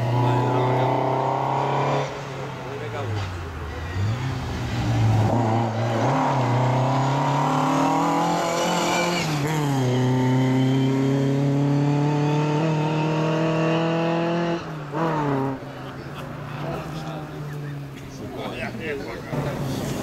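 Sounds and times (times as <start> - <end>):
rally car engine passing: 0.0 - 20.0.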